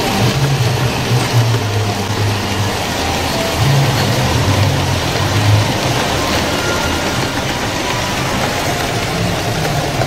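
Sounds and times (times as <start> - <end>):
model trains rumbling: 0.0 - 10.0.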